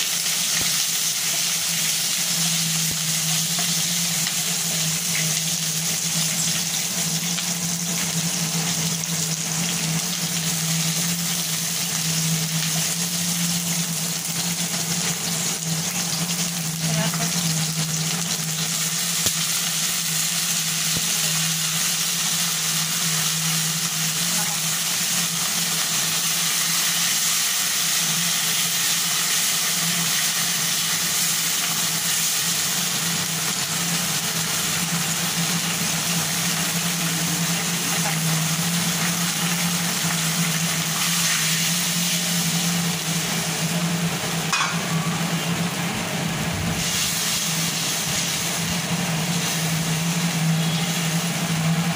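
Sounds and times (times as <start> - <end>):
vegetables sizzling in oil: 0.0 - 51.9.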